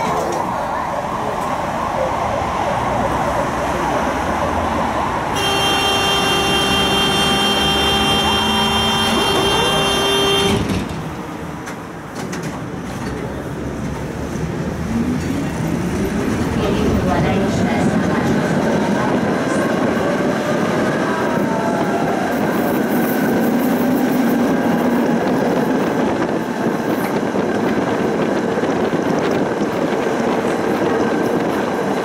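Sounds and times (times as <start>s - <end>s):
tram traction motors whining: 0.0s - 32.0s.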